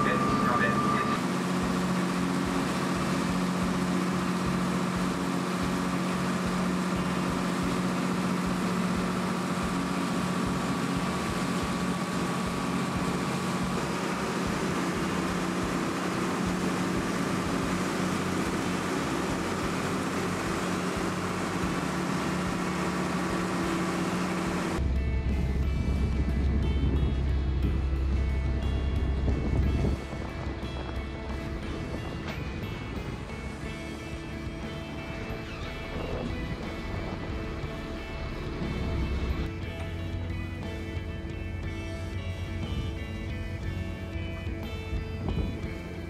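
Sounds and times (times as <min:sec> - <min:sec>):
wind and water rushing: 0:00.0 - 0:39.8
ferry engine drone: 0:00.0 - 0:46.0.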